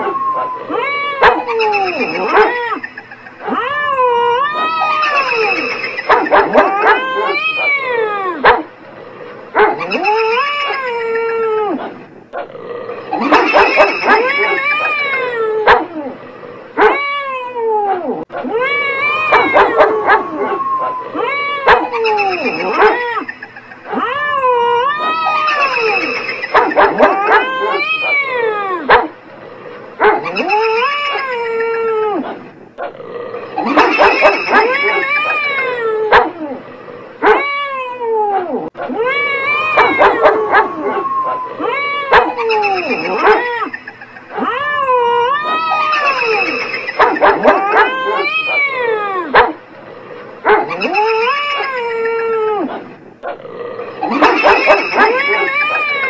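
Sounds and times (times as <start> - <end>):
cat yowling: 0.0 - 8.6, 9.6 - 11.9, 13.2 - 16.1, 16.8 - 29.1, 30.1 - 32.4, 33.6 - 36.6, 37.2 - 49.6, 50.5 - 52.9, 54.0 - 56.0
dog barking and howling: 0.0 - 29.3, 29.9 - 56.0.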